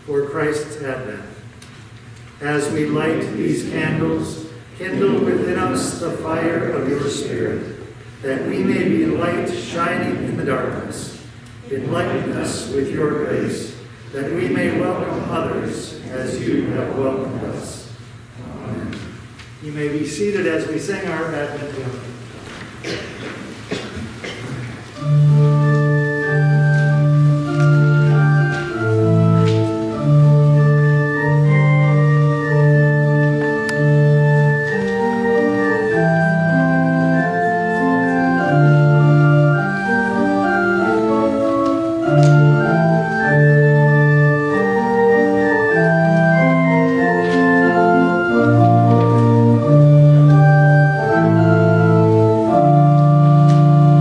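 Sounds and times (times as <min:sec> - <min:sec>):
organ playing hymn chords: 0:00.0 - 0:23.0, 0:23.6 - 0:54.0.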